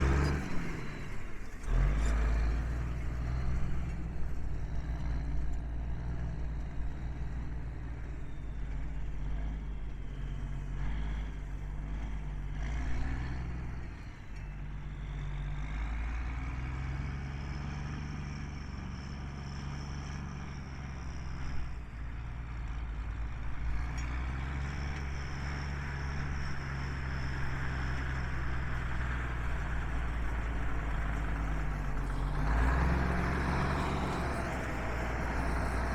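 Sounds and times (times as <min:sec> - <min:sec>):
truck diesel engine droning: 0:00.0 - 0:35.9.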